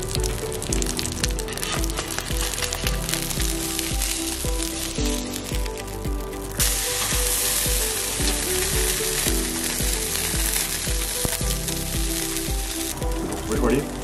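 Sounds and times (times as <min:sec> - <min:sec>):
background music with steady beat: 0:00.0 - 0:14.0
fish sizzling on griddle: 0:00.0 - 0:14.0.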